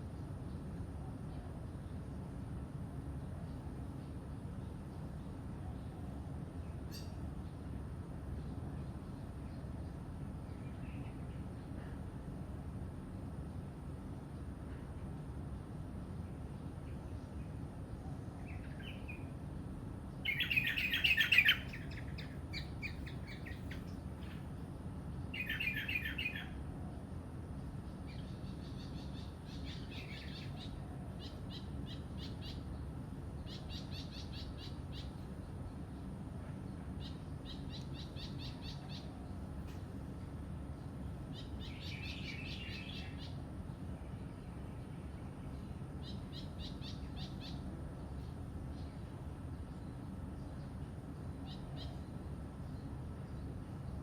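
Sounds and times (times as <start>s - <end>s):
low background hum: 0.0s - 54.0s
songbirds chirping and trilling: 0.0s - 54.0s.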